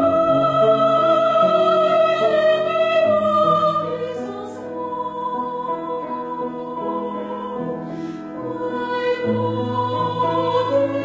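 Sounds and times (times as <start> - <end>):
mixed choir singing: 0.0 - 11.0
piano accompaniment: 0.0 - 11.0.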